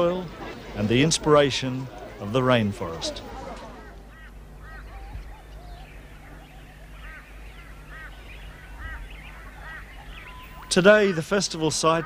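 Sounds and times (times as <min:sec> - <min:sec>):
birds calling: 0:00.0 - 0:12.0
low steady hum: 0:00.0 - 0:12.0.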